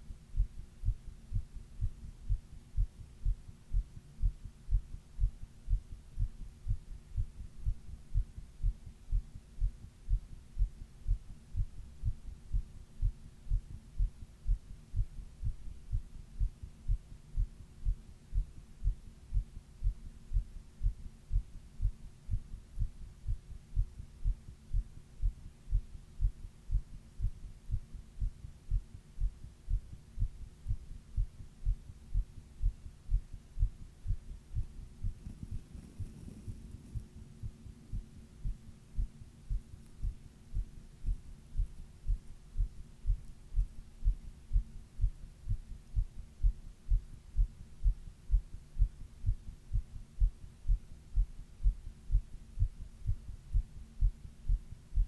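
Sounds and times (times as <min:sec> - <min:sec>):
faint steady hum: 0:00.0 - 0:55.0
heartbeat thumps: 0:00.0 - 0:55.0.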